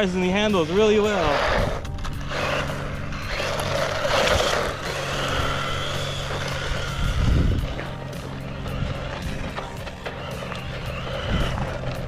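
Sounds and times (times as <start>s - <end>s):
rc truck motor whining: 0.0s - 12.0s.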